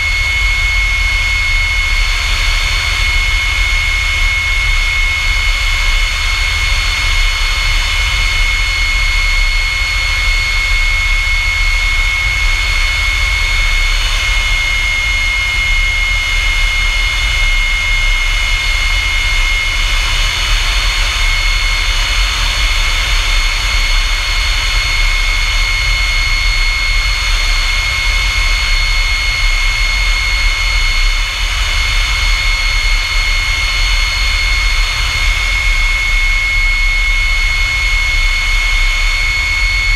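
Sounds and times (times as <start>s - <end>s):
jet engine whine and rumble: 0.0s - 39.9s.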